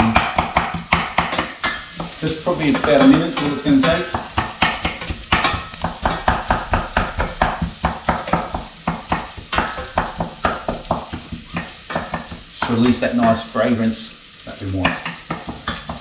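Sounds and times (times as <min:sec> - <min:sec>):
vegetables frying in oil: 0:00.0 - 0:16.0.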